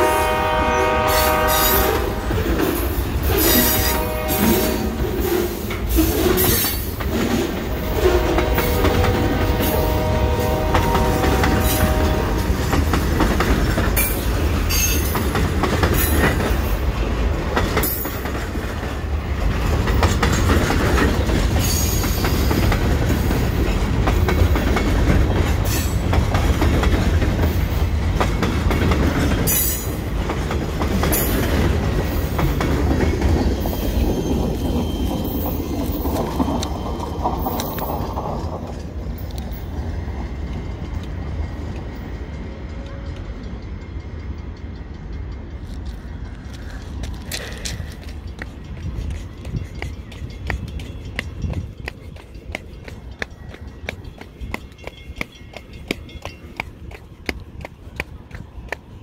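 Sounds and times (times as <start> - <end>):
freight train wheels rumbling: 0.0 - 59.0
wheels clacking over rail joints: 4.7 - 59.0.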